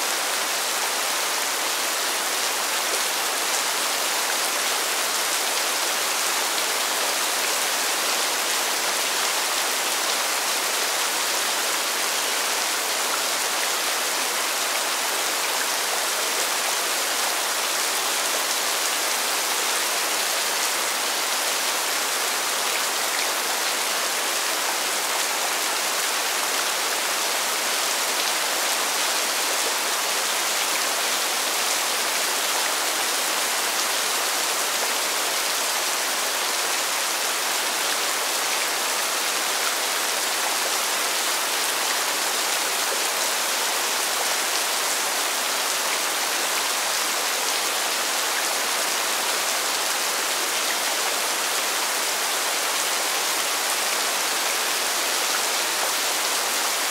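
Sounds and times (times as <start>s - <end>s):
rain falling on pavement: 0.0s - 56.9s.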